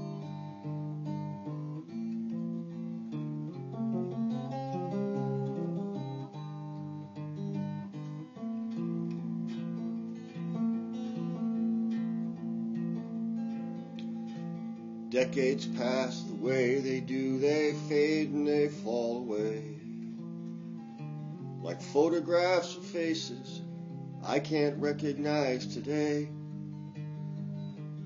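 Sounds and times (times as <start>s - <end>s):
guitar playing: 0.0s - 28.0s.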